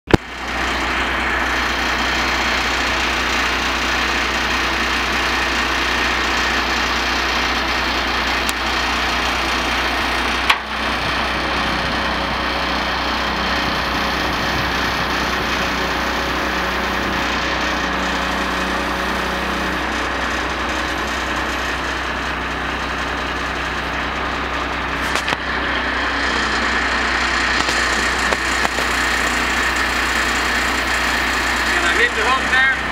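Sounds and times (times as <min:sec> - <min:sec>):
truck engine running: 0:00.1 - 0:32.9.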